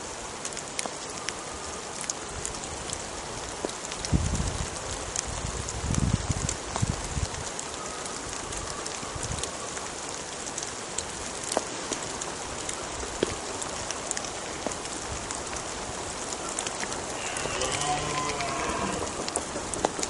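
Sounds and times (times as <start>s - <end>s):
rain falling on woodland: 0.0s - 20.0s.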